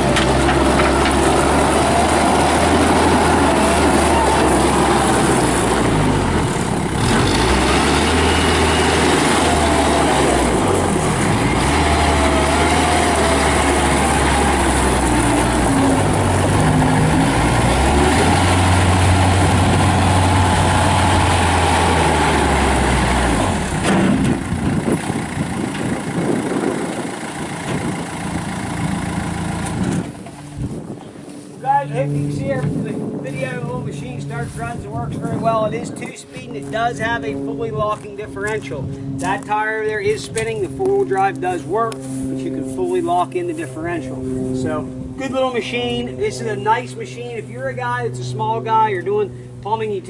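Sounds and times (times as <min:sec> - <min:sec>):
backhoe loader diesel engine running: 0:00.0 - 0:50.0.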